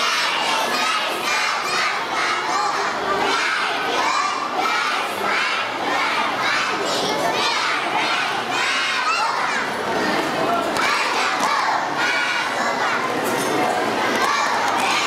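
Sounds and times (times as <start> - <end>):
children shouting and cheering: 0.0 - 15.0.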